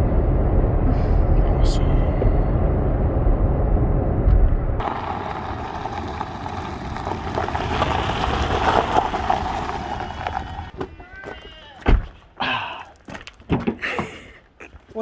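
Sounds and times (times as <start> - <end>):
truck road noise rumble: 0.0 - 12.3.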